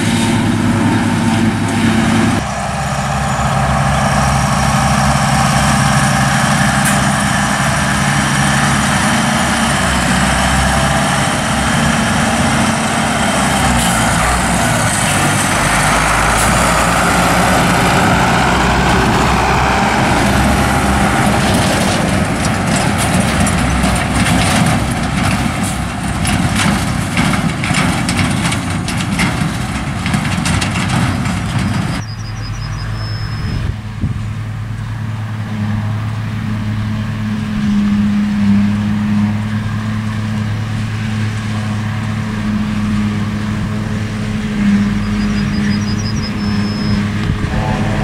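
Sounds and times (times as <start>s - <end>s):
distant harvester drone: 0.0s - 48.0s
tractor diesel engine: 0.0s - 48.0s.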